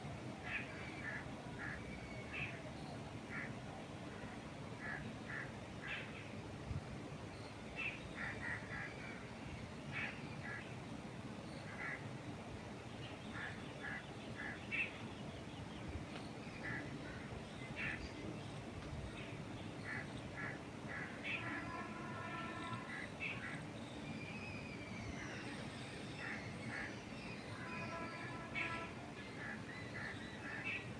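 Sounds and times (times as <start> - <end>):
wind moving through trees: 0.0 - 30.9.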